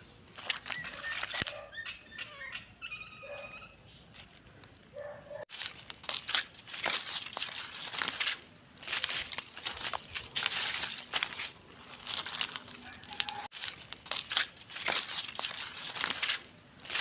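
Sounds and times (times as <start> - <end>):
dry leaves crunching under paws: 0.0 - 17.0.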